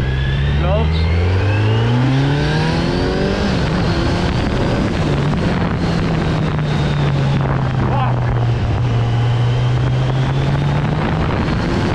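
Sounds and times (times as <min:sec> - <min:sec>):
motorcycle engine accelerating: 0:00.0 - 0:11.9.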